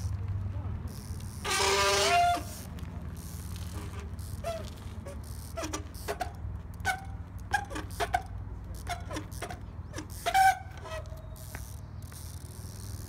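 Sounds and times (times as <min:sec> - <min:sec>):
bike squeaks and knocks: 0:00.9 - 0:13.0.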